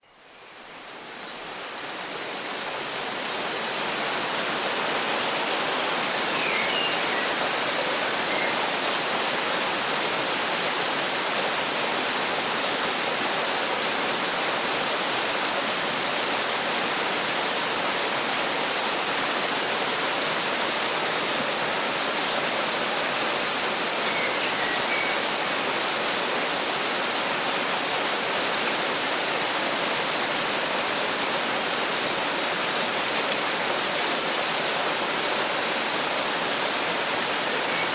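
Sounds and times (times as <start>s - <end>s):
waterfall rushing: 0.6s - 37.9s.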